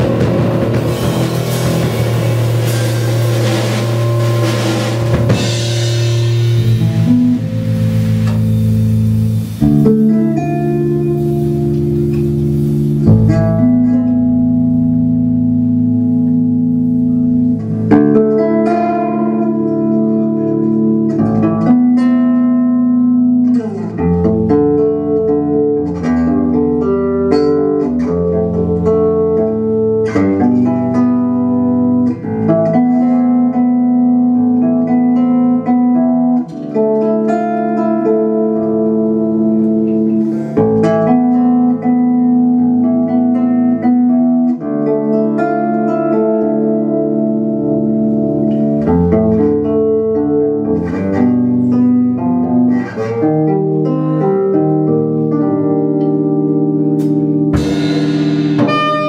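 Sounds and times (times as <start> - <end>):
plucked electric string instrument: 0.0 - 59.0.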